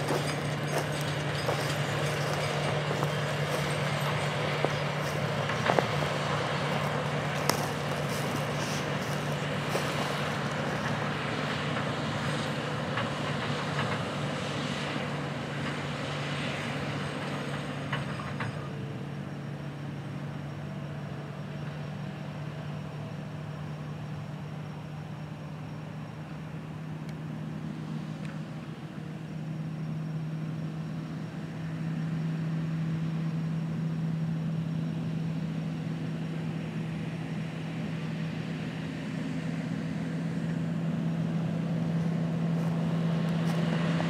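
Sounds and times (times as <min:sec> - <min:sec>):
diesel engine under heavy load: 0:00.0 - 0:44.0.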